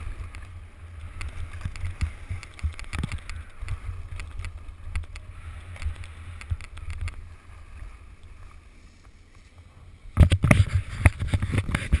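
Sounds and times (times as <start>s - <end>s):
low wind rumble: 0.0s - 12.0s
skis scraping on packed snow: 0.0s - 12.0s.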